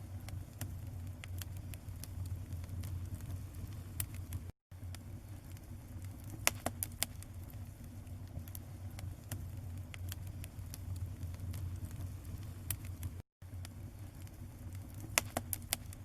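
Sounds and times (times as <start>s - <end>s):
fire crackling and popping: 0.0s - 16.0s
steady low hum: 0.0s - 16.0s.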